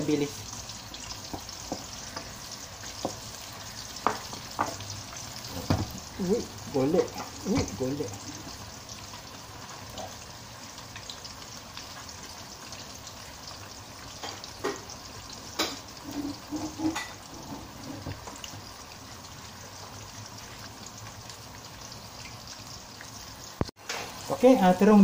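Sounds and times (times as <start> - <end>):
deep-frying sizzle: 0.0 - 25.0.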